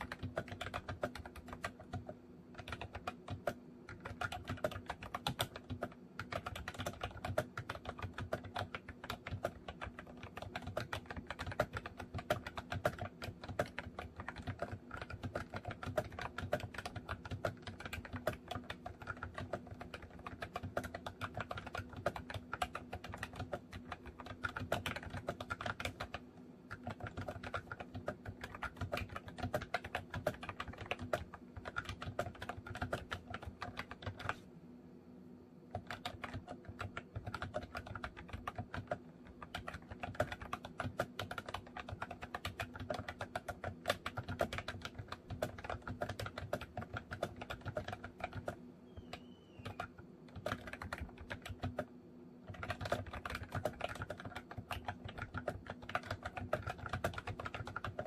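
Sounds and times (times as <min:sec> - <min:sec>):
fast keyboard typing: 0:00.0 - 0:34.5, 0:35.7 - 0:58.0
faint steady hum: 0:00.0 - 0:58.0.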